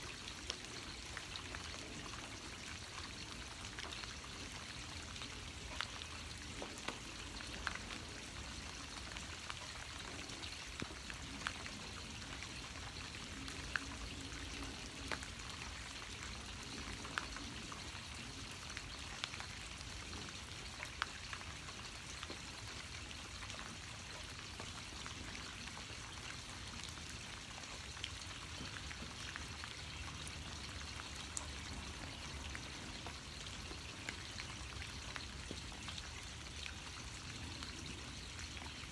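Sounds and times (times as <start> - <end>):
rain falling: 0.0 - 38.9
raindrop ticks: 0.0 - 38.9.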